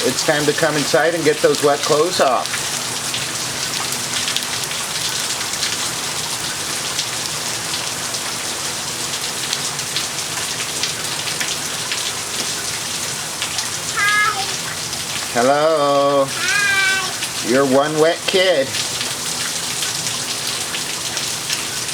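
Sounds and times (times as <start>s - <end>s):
rain pattering on hard surfaces: 0.0s - 21.9s.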